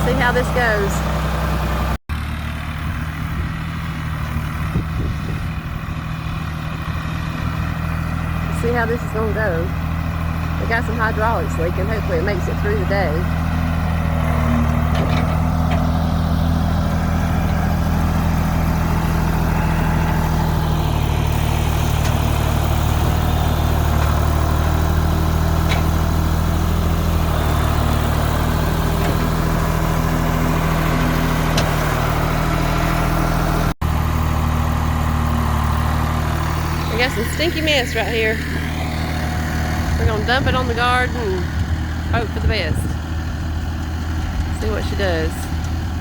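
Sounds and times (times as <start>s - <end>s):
work machine engine running: 0.0s - 46.0s.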